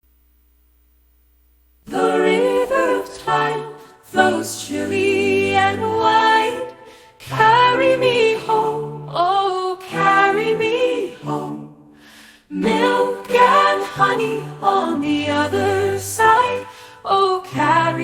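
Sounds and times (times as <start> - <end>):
choir singing a cappella: 1.9 - 18.0.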